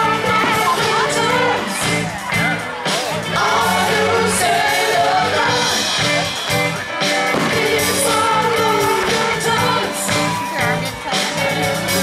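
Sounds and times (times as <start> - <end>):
pop music with singer: 0.0 - 12.0.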